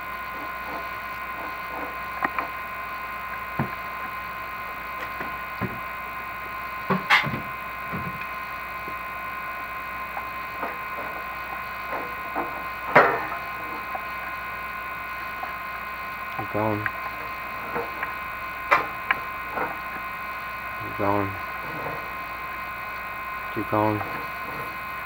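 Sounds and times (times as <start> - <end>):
electrical whine and hum: 0.0 - 25.0.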